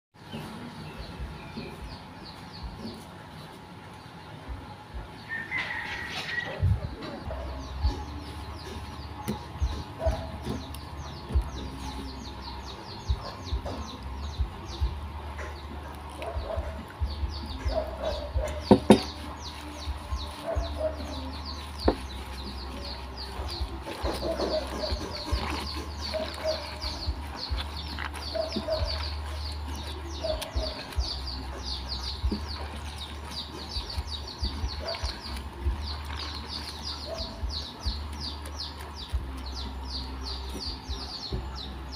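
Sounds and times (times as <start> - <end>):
chickens clucking: 0.2 - 41.9
rapid high-pitched chirping: 7.8 - 41.9.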